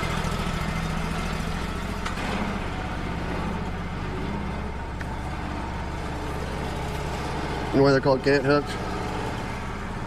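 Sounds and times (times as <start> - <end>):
sawmill engine idling: 0.0 - 10.0.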